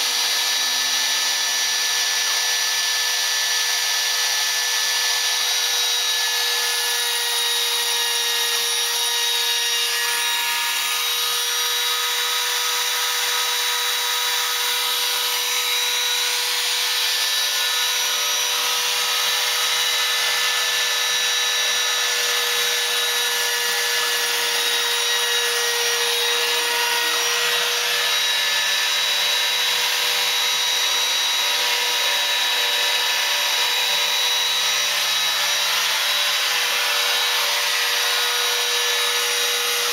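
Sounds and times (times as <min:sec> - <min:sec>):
rasping cutting noise: 0:00.0 - 0:39.9
router spindle high whine: 0:00.0 - 0:39.9.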